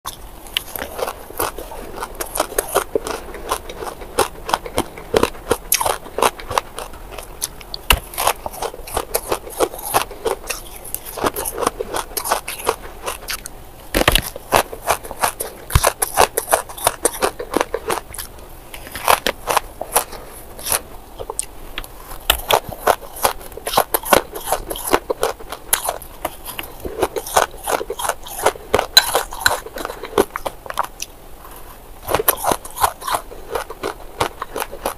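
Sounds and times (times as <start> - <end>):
crunching and chewing ice: 0.1 - 34.9.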